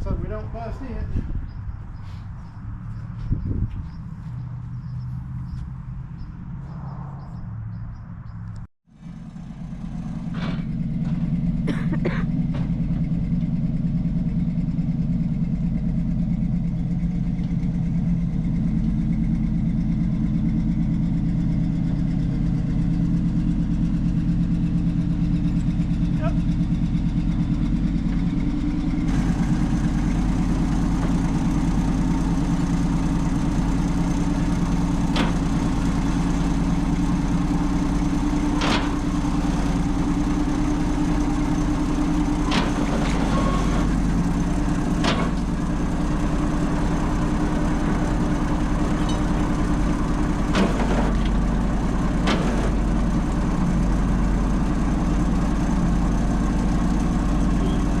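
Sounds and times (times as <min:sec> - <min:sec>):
engine idling: 0:09.0 - 0:58.0.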